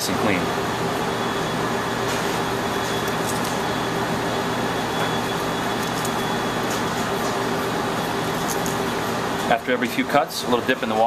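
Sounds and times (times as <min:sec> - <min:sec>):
kitchen ventilation hum: 0:00.0 - 0:11.0.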